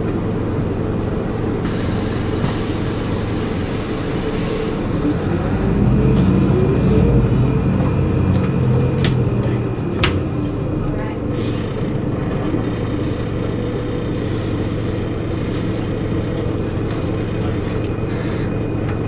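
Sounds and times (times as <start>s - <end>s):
diesel bus engine rumbling: 0.0s - 19.0s.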